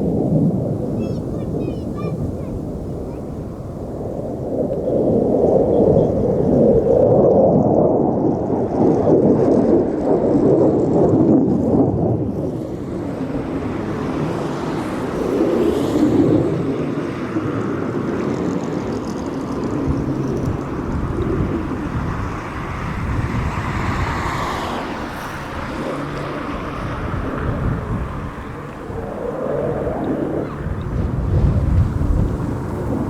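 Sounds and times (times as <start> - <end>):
turboprop aircraft low pass: 0.0 - 33.0.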